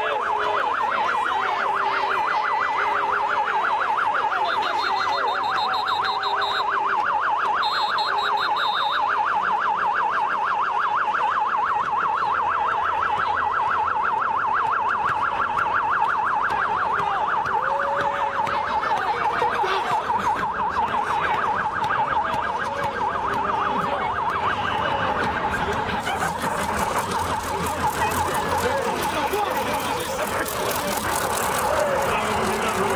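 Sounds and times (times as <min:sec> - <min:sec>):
crowd noise: 0:00.0 - 0:32.9
police siren yelping: 0:00.0 - 0:32.9.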